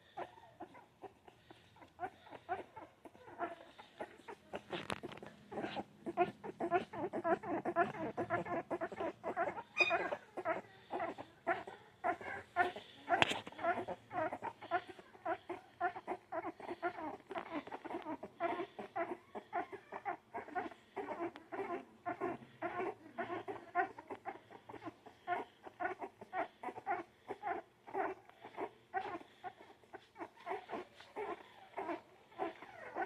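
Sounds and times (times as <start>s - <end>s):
puppies whimpering and squeaking: 0.0s - 33.0s.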